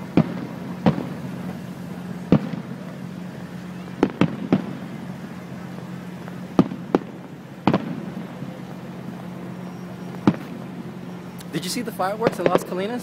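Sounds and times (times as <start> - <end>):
firework shells booming: 0.0 - 13.0
low steady hum: 0.0 - 13.0.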